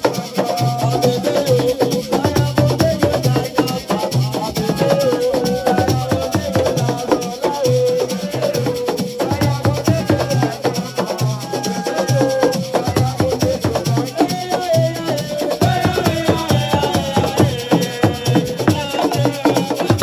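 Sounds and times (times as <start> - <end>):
hand drum and rattle rhythm: 0.0 - 20.0
person singing: 0.0 - 20.0.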